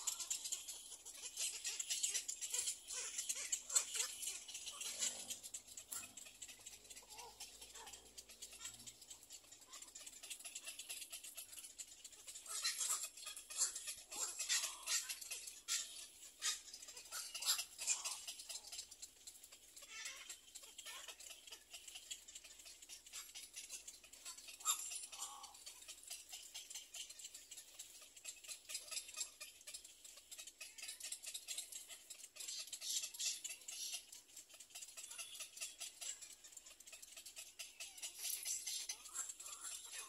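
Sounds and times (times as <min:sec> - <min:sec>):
nestlings ticking and chattering: 0:00.0 - 0:40.0.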